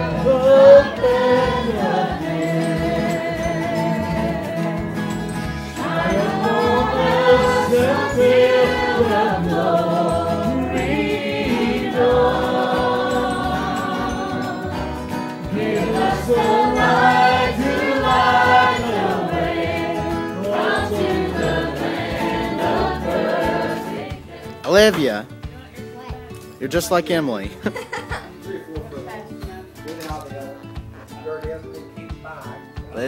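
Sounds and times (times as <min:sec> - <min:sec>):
music with singing: 0:00.0 - 0:26.7, 0:27.3 - 0:33.0.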